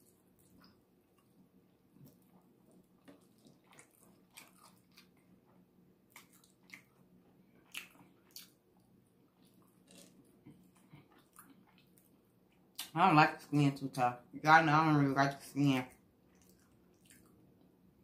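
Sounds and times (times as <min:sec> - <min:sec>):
soft chewing and mouth clicks: 0:00.0 - 0:13.0, 0:15.9 - 0:17.8.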